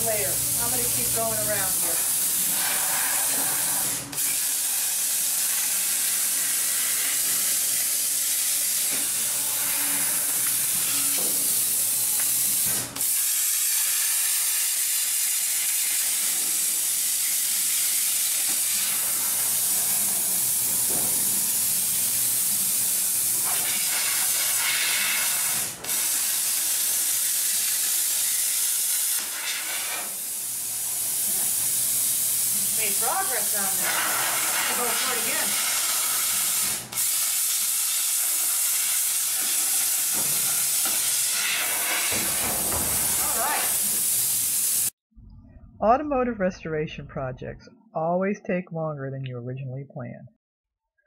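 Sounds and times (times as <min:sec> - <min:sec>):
plasma torch hissing: 0:00.0 - 0:45.0.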